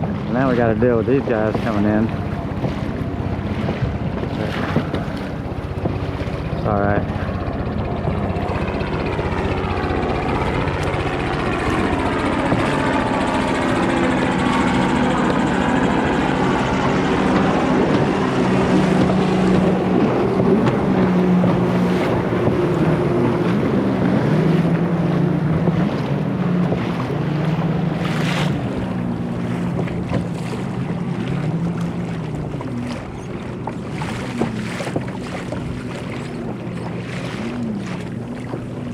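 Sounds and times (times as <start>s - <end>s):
jet ski engines running: 0.0s - 38.9s
water noise: 0.0s - 38.9s
wind: 0.0s - 38.9s.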